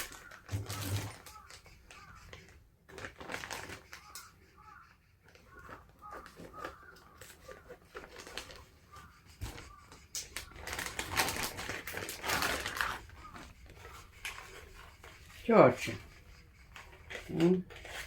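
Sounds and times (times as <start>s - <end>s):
mask rustling and clicking: 0.0s - 18.0s.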